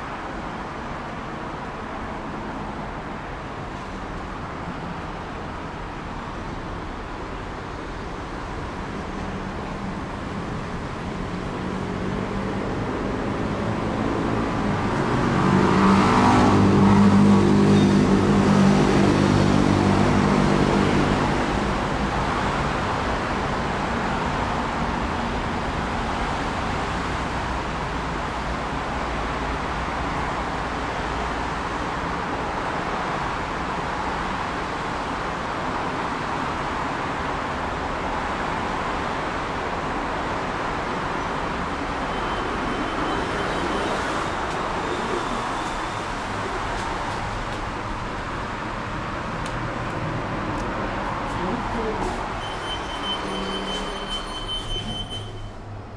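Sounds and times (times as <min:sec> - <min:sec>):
road traffic noise: 0:00.0 - 0:55.9.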